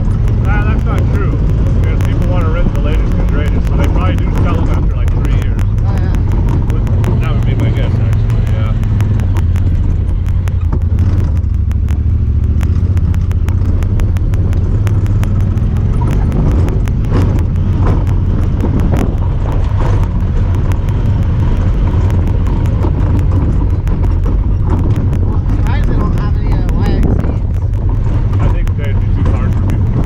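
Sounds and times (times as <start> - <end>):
engine droning: 0.0 - 30.0
rapid even ticking: 0.0 - 30.0.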